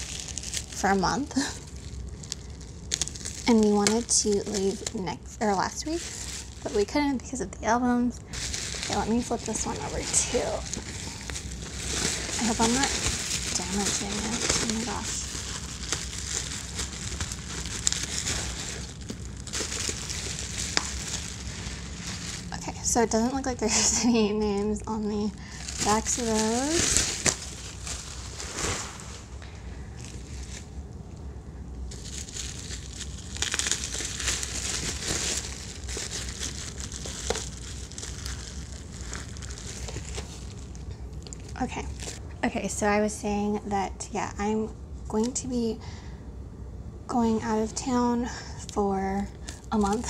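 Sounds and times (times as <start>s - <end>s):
bubble wrap crinkling: 0.0s - 7.4s, 8.3s - 42.3s, 49.2s - 50.0s.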